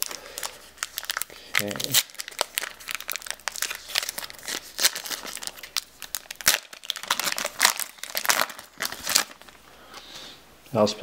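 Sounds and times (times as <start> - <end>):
foil pack crinkling and tearing: 0.0 - 9.6.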